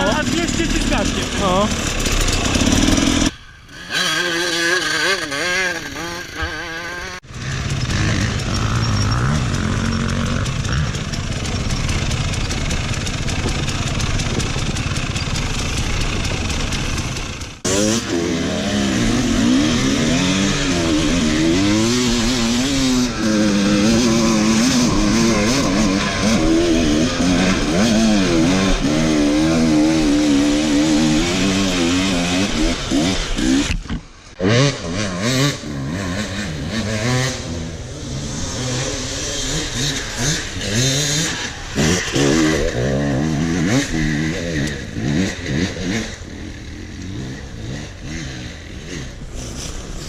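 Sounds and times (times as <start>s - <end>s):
dirt bike engines revving: 0.0s - 50.0s.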